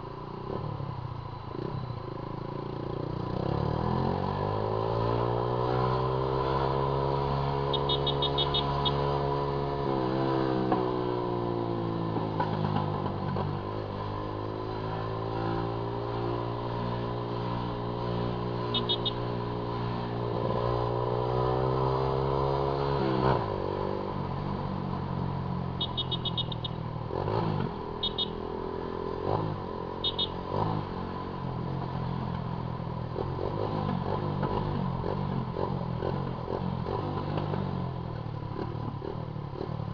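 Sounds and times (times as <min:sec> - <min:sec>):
motorcycle engine revving: 0:01.6 - 0:39.9.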